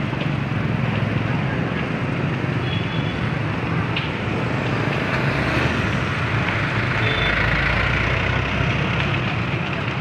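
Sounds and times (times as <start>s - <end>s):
motorbike engines running: 0.0s - 10.0s.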